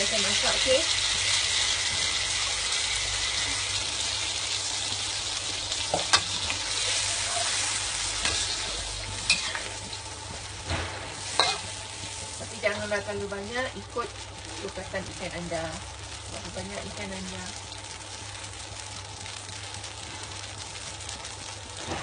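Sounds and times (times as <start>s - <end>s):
food sizzling in hot pan: 0.0s - 22.0s.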